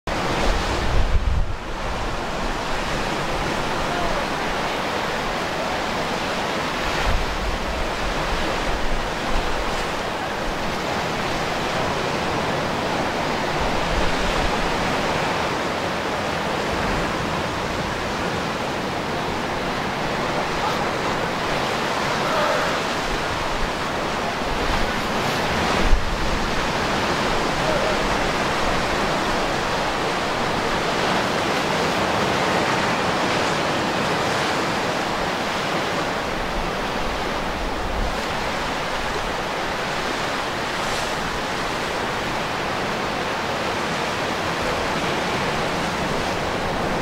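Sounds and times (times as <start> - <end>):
surf washing up a beach: 0.1 - 47.0
wind rumble on microphone: 0.1 - 47.0.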